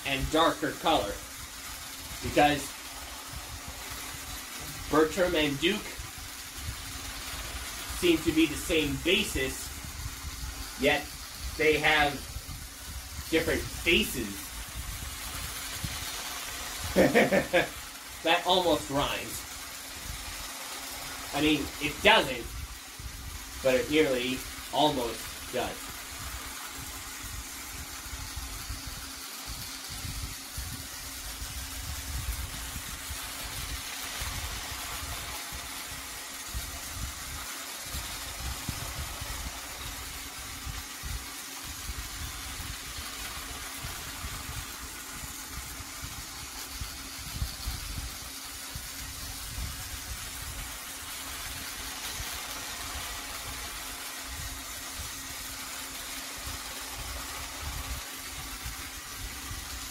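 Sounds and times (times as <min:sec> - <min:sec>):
toy train motor hum: 0:00.0 - 0:59.9.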